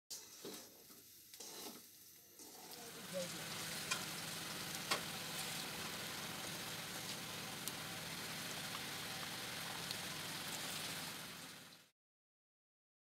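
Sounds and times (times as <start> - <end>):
curry sizzling and bubbling: 0.1 - 11.9.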